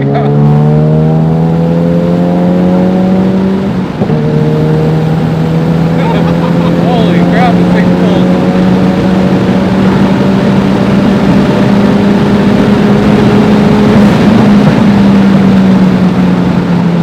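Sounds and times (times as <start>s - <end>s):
car engine droning in cabin: 0.0s - 17.0s
tyre and road noise: 0.0s - 17.0s.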